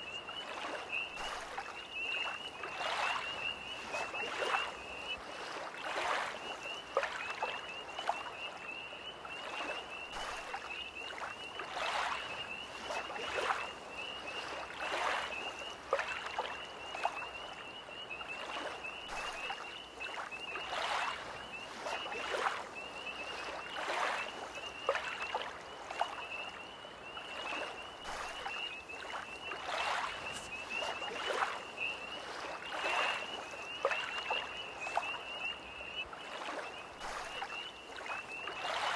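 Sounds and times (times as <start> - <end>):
tree frogs trilling: 0.0 - 38.9
waves lapping at shore: 0.0 - 38.9.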